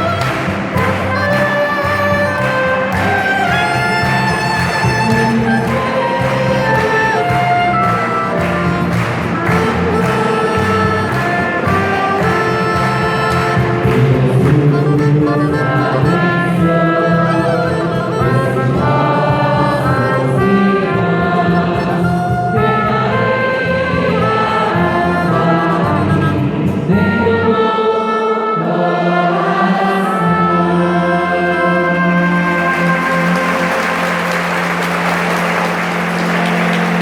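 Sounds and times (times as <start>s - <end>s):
instrumental accompaniment: 0.0s - 37.0s
trumpet melody: 0.0s - 37.0s.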